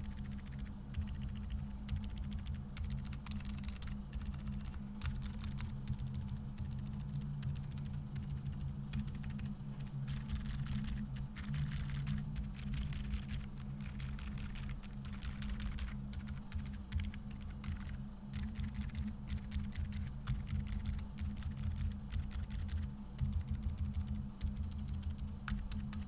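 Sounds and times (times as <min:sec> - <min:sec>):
low steady hum: 0:00.0 - 0:26.0
muted keyboard typing: 0:00.0 - 0:26.0.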